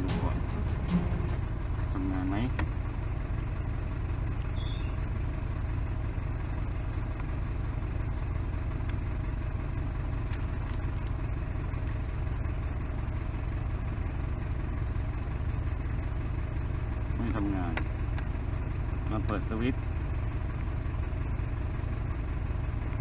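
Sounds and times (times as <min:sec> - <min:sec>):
pickup engine idling: 0:00.0 - 0:23.0.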